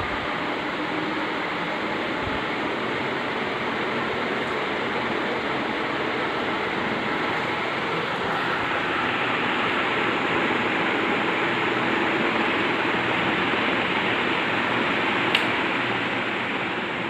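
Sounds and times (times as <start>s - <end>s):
ceiling fan air rush: 0.0s - 17.0s
faint motor hum: 0.0s - 17.0s.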